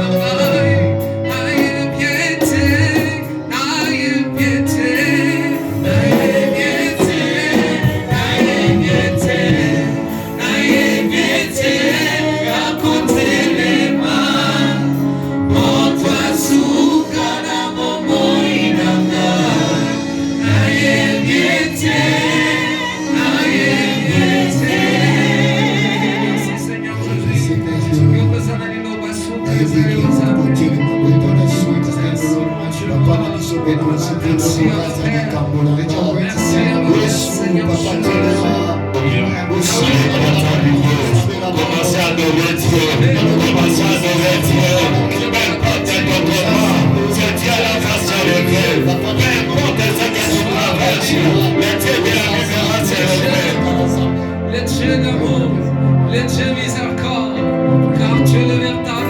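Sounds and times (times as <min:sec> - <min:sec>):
choir singing with accompaniment: 0:00.0 - 0:56.7.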